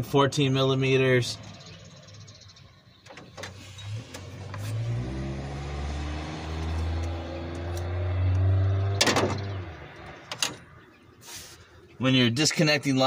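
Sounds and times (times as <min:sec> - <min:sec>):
engine running low hum: 0:00.8 - 0:12.0.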